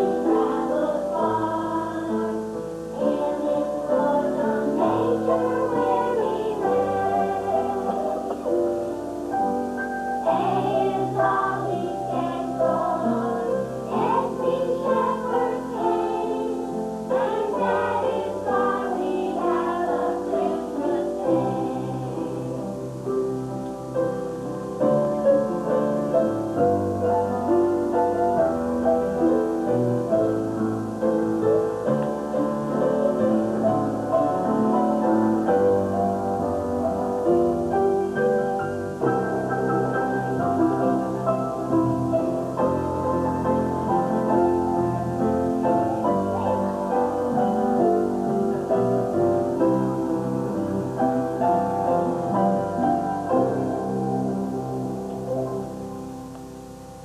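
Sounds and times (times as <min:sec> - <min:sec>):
piano melody over chords: 0:00.0 - 0:57.0.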